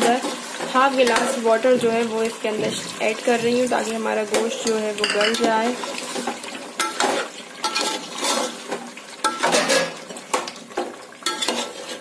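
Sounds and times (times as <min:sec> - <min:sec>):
metal spoon scraping a pot: 0:00.0 - 0:10.0, 0:11.2 - 0:12.0.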